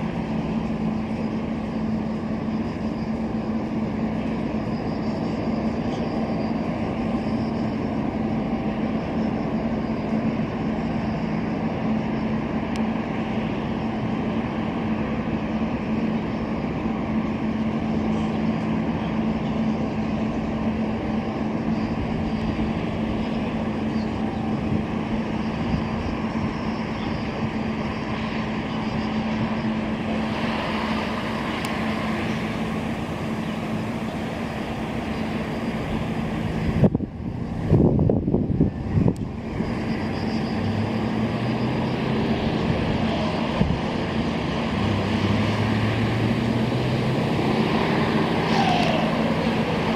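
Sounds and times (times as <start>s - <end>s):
ship diesel engines droning: 0.0s - 49.9s.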